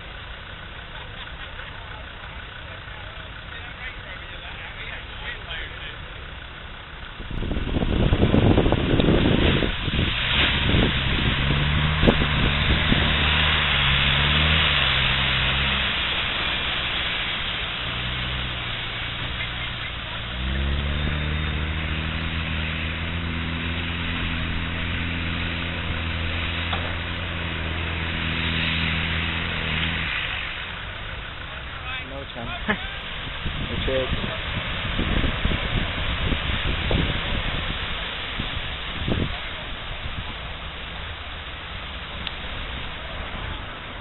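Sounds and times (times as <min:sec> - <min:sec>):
engine labouring and revving: 0:00.0 - 0:44.0.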